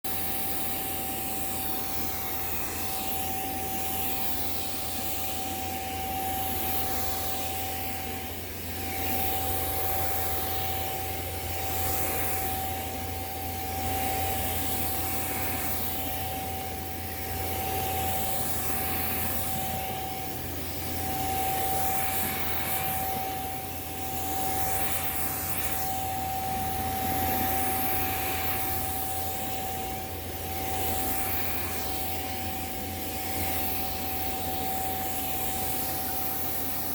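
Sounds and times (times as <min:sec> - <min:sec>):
handheld vacuum cleaner running: 0:00.1 - 0:36.9.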